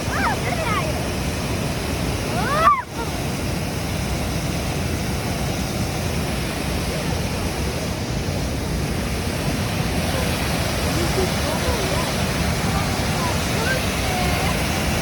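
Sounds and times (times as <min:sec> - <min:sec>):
water pouring over dam: 0:00.0 - 0:15.0.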